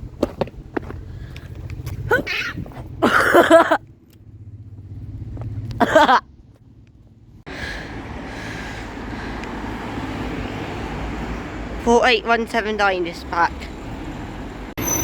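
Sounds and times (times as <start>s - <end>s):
bus engine running: 0.0s - 15.0s
road noise rumble: 0.0s - 15.0s.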